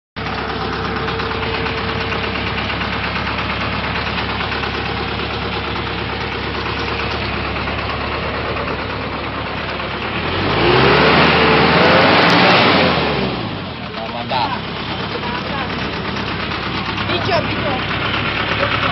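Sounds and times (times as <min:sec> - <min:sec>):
diesel engine idling and revving: 0:00.2 - 0:18.9.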